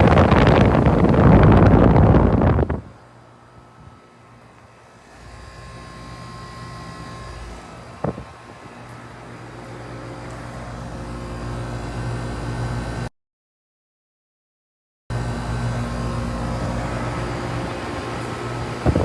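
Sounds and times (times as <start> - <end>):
air conditioner hum and fan: 0.0 - 13.1, 15.1 - 19.0.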